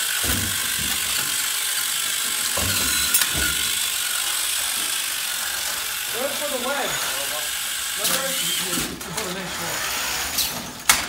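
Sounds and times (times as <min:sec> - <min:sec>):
robot drive motors whirring: 0:00.0 - 0:11.0.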